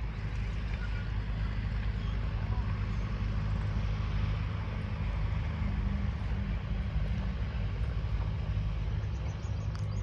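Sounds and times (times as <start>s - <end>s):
broad rushing noise: 0.0s - 10.0s
low engine drone: 0.0s - 10.0s.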